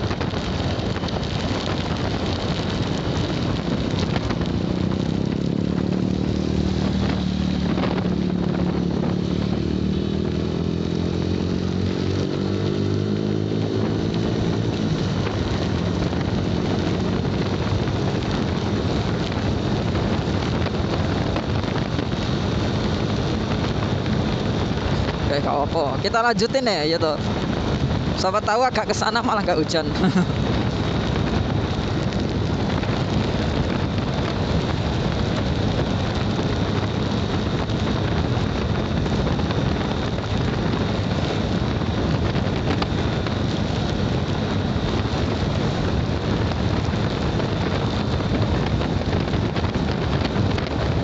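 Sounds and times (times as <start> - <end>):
motorcycle engine running: 0.0 - 51.0
wind rush on microphone: 0.0 - 51.0.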